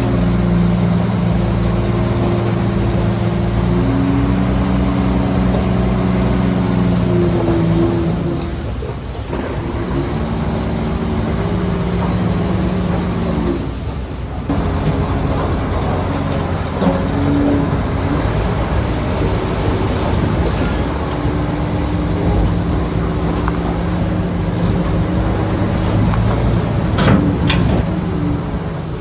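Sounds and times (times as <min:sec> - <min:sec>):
diesel machinery running: 0:00.0 - 0:29.0.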